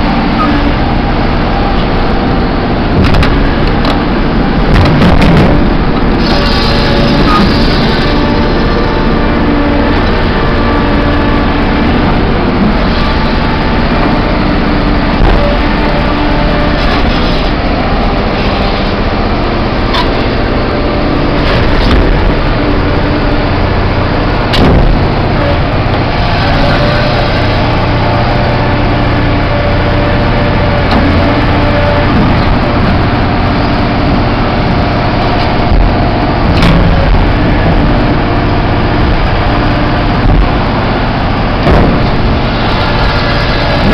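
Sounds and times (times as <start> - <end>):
large diesel engine running: 0.0 - 43.9
whining tones: 0.0 - 43.9.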